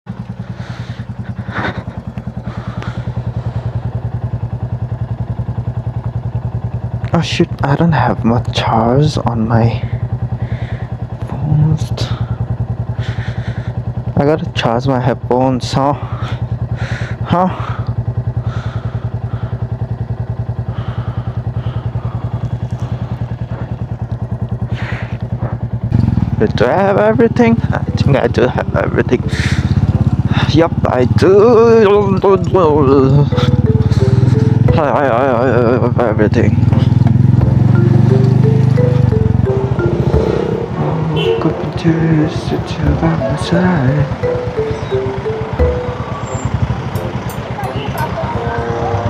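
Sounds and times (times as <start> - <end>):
motorcycle engine idling: 0.1 - 49.0.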